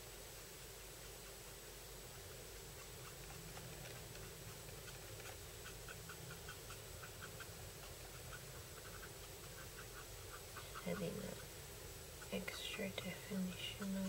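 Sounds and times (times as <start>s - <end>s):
marker strokes on paper: 0.8s - 14.0s.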